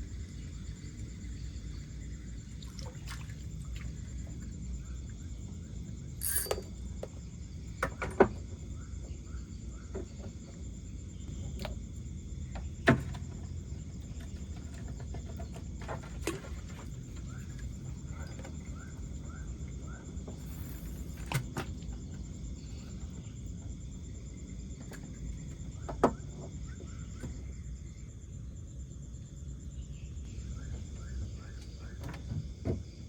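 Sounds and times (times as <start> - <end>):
insect drone: 0.0 - 33.0.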